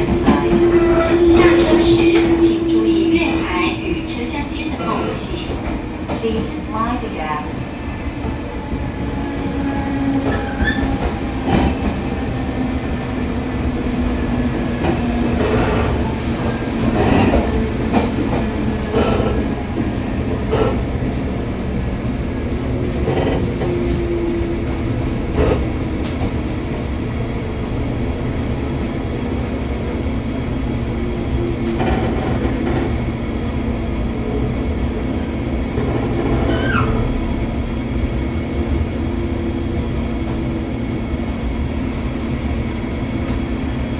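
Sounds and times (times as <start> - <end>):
train running and braking: 0.0 - 43.9.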